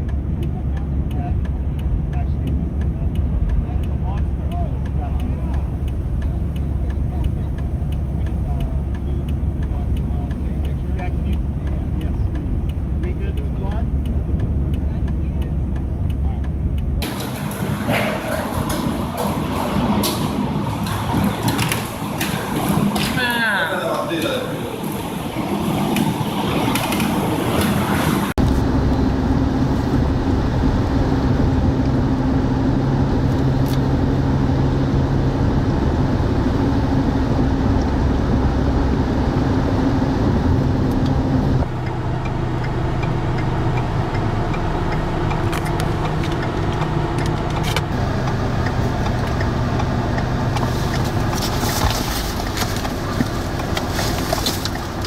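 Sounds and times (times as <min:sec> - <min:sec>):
road noise: 0:00.0 - 0:55.0
vehicle engine drone: 0:00.0 - 0:55.0.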